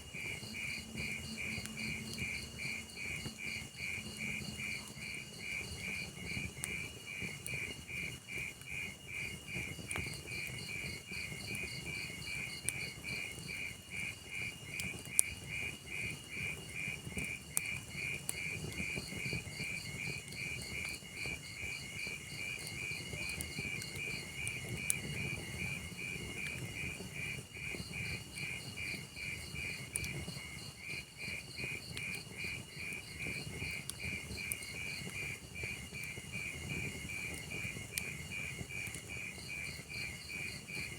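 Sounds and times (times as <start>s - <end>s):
burning logs popping: 0.1s - 40.9s
cricket chirping: 0.1s - 40.9s
log fire hiss: 2.2s - 40.9s.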